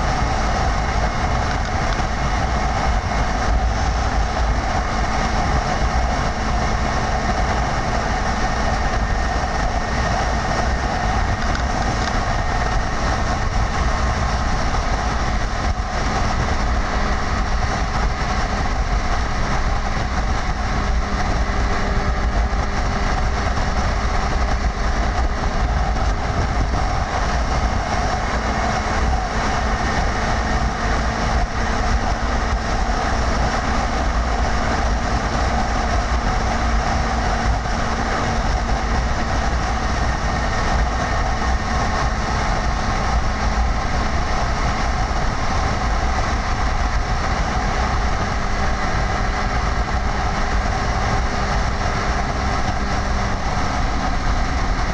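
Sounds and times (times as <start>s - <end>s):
low engine drone: 0.0s - 54.9s
wind and road noise: 0.0s - 54.9s.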